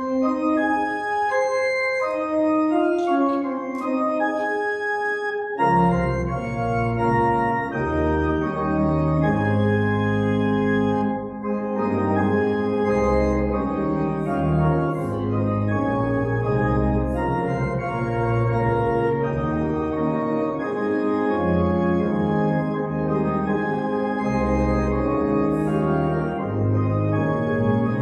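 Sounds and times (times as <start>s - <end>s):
church organ chords: 0.0s - 28.0s.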